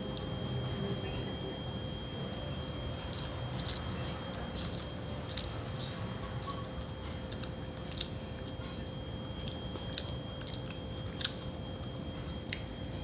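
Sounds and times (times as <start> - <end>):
person chewing rice: 2.2 - 13.0.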